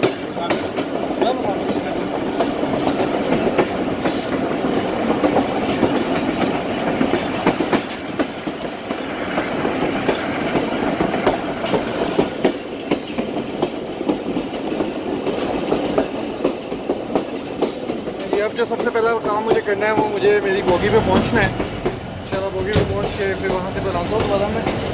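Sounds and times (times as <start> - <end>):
clickety-clack at rail joints: 0.0 - 24.9
rolling rumble of train wheels: 0.0 - 24.9.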